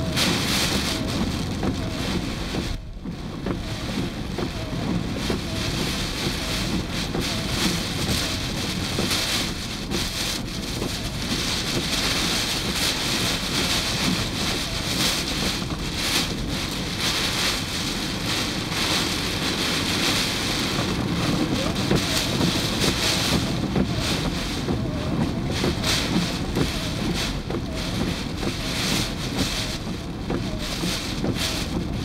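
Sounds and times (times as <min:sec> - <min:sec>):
constant low rumble: 0:00.0 - 0:32.0
heavy rain hiss: 0:00.0 - 0:32.0.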